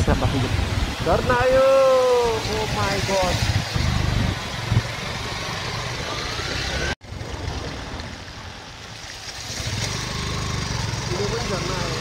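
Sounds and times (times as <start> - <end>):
mountain stream rushing: 0.0 - 12.0
motorcycle engines approaching: 0.5 - 12.0.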